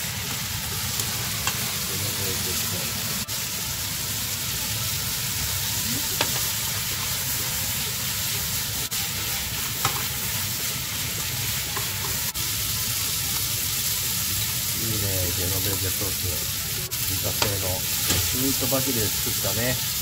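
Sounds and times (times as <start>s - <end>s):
spaghetti sizzling in frying pan: 0.0s - 20.0s.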